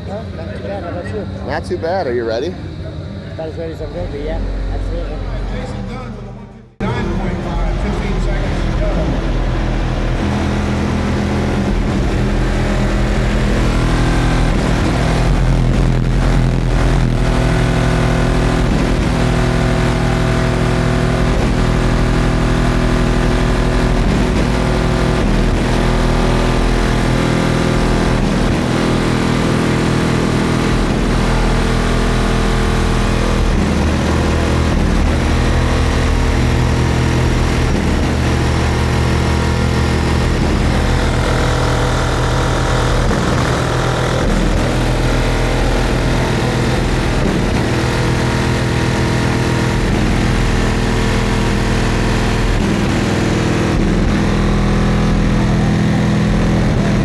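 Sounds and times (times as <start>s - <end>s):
loud bass-heavy music: 1.3s - 57.0s.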